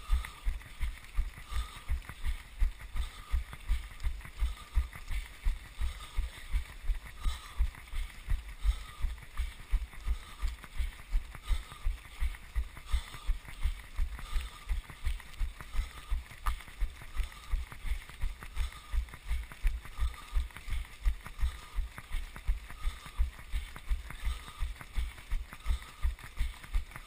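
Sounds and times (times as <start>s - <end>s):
pack of runners' footsteps: 0.0s - 27.0s.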